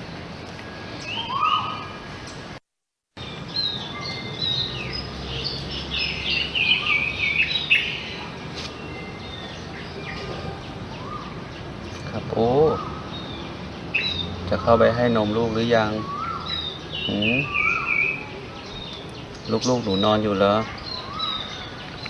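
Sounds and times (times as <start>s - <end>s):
small birds chirping: 0.0s - 2.6s, 3.2s - 22.0s.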